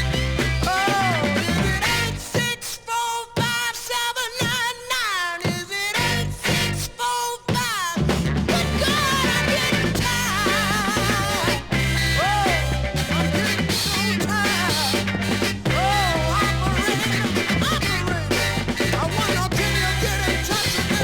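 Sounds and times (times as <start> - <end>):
band with bass and drums: 0.0 - 21.0
soul record with singer: 0.0 - 21.0.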